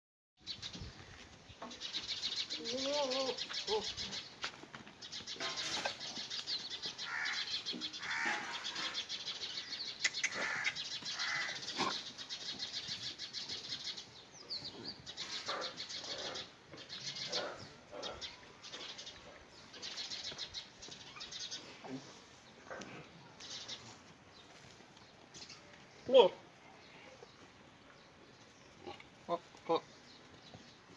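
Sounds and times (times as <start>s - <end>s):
birds chirping: 0.4s - 30.9s.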